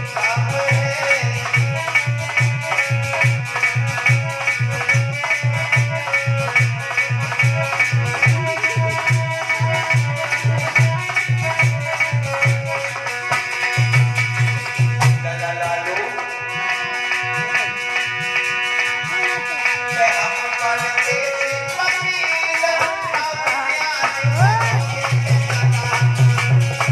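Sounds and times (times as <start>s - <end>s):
tabla in quick rhythm: 0.0s - 26.9s.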